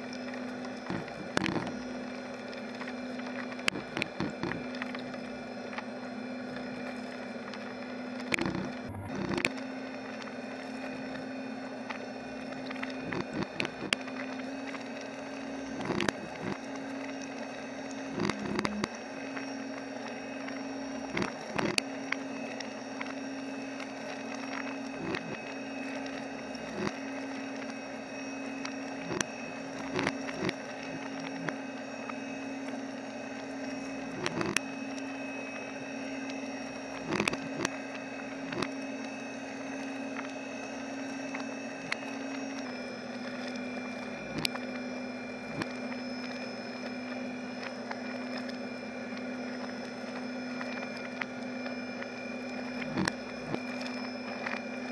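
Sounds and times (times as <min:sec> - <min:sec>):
machine humming: 0:00.0 - 0:54.9.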